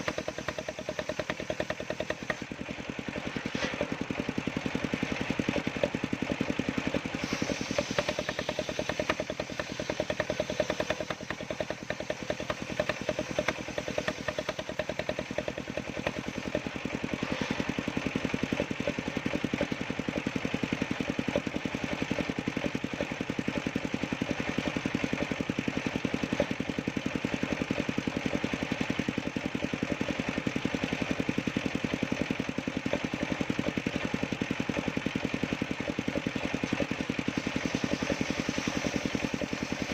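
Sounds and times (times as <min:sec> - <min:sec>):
sawmill engine chugging: 0:00.0 - 0:39.9.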